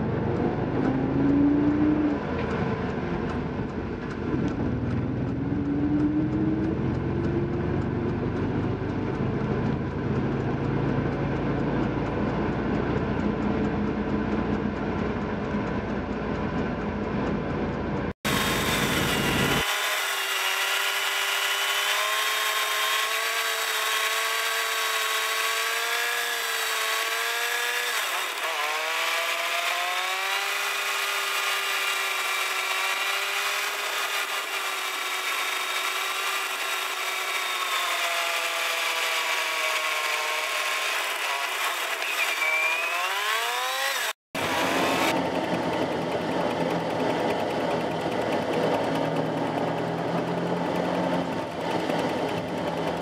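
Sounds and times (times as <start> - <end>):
car engine revving inside cabin: 0.0 - 19.7, 21.4 - 53.0.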